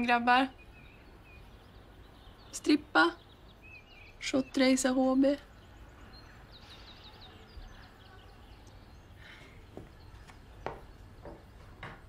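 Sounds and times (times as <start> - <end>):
faint high bird chirps: 0.0 - 11.5.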